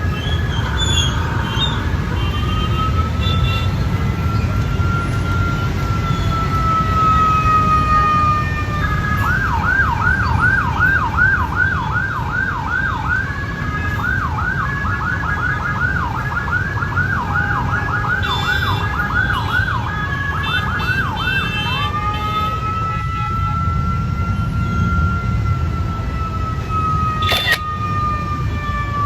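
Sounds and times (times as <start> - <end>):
emergency vehicle siren: 0.0 - 29.0
heavy road traffic rumble: 0.0 - 29.0.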